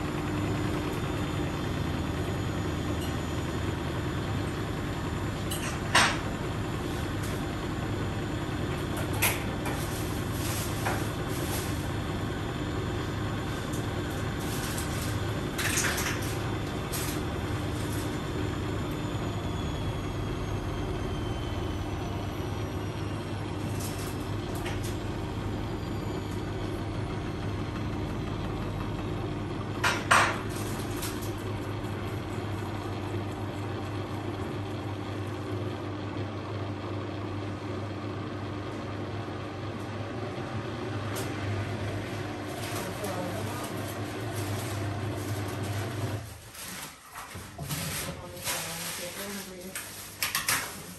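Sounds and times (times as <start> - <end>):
washing machine motor and drum hum: 0.0 - 50.9.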